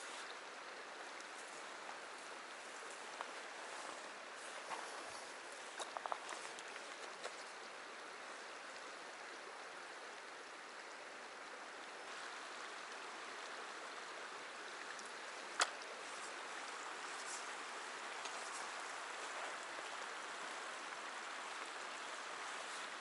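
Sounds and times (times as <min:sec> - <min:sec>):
river running over stones: 0:00.0 - 0:23.0.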